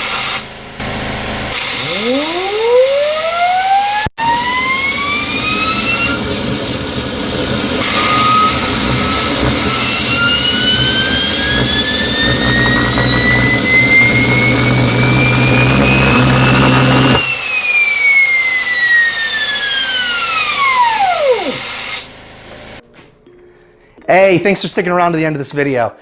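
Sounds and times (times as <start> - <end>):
turbine whine: 0.0 - 23.4
loud combustion rumble: 0.4 - 3.0, 3.7 - 22.8.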